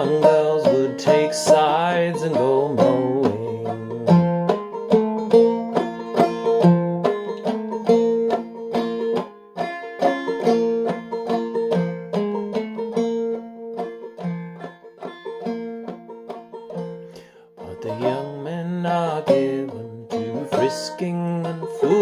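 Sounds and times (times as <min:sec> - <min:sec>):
banjo plucking over drone: 0:00.0 - 0:22.0.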